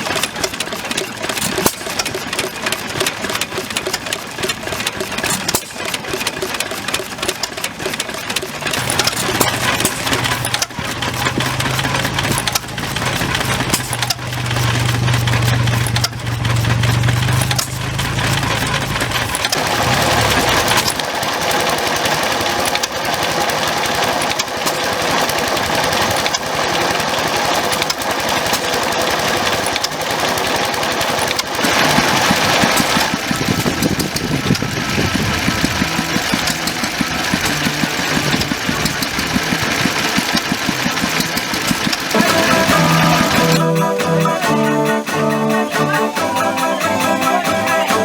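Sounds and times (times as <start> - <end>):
stationary engines chugging: 0.0 - 48.0.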